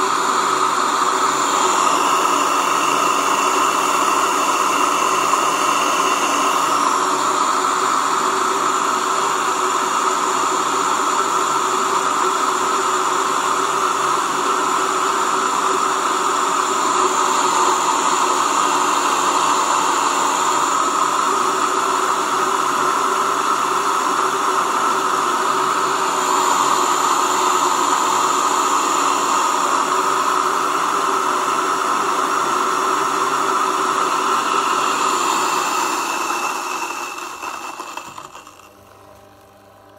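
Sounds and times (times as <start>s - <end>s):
electric grain mill grinding: 0.0s - 39.9s.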